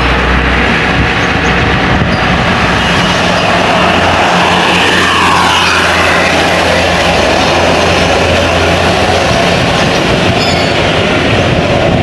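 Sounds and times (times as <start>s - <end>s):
low engine drone: 0.0s - 12.0s
road and tyre noise: 0.0s - 12.0s.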